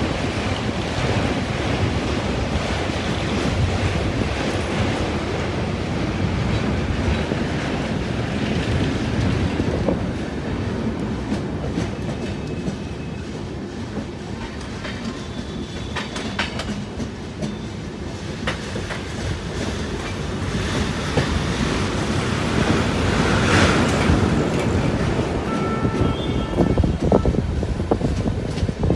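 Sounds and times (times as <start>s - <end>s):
clickety-clack of rail joints: 0.0s - 28.9s
train wheels rumbling on rail: 0.0s - 28.9s.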